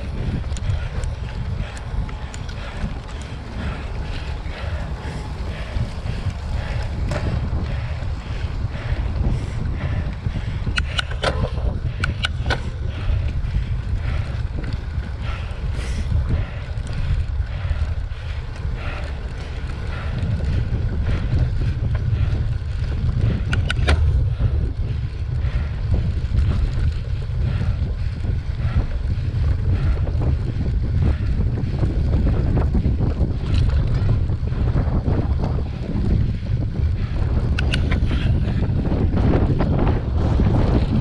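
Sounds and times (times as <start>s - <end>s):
bike clicks and rattles: 0.0s - 41.0s
wind buffeting microphone: 0.0s - 41.0s.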